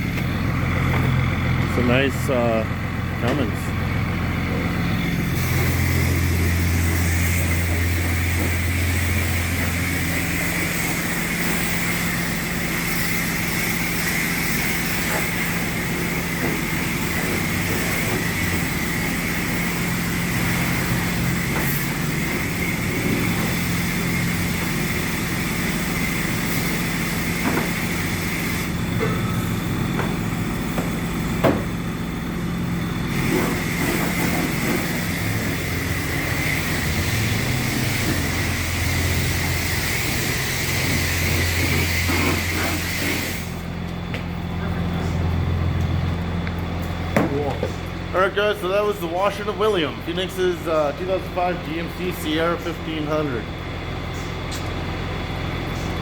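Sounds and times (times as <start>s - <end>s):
diesel engine droning: 0.0s - 56.0s
mechanical hum and hiss: 0.0s - 56.0s.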